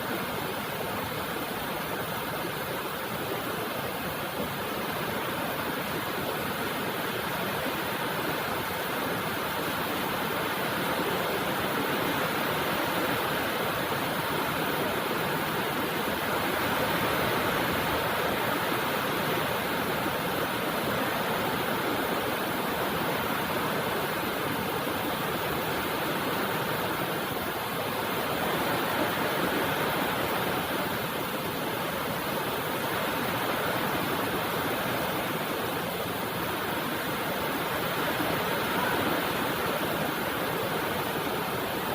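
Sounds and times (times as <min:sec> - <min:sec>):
steady rainfall: 0:00.0 - 0:41.9.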